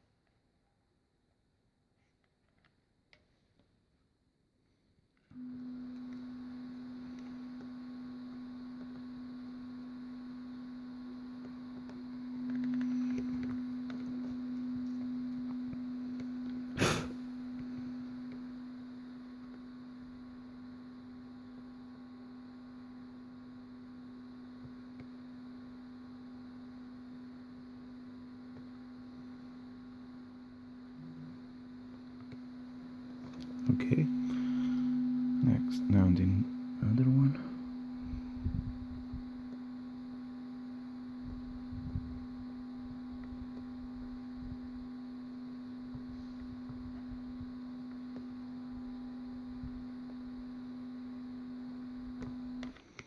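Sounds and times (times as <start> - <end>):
electrical hum: 5.3 - 53.0.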